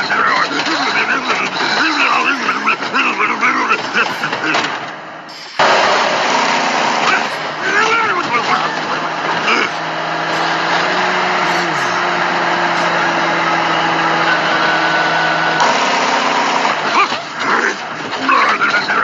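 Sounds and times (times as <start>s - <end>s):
road noise: 0.0s - 19.0s
truck engine running: 0.0s - 19.0s.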